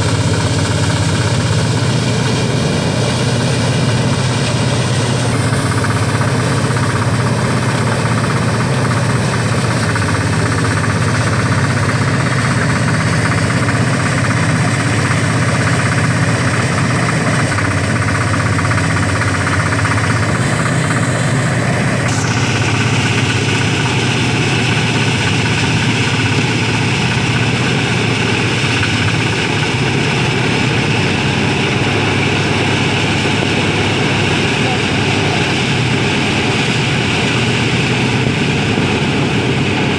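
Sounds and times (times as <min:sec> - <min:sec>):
threshing machine running: 0:00.0 - 0:39.9.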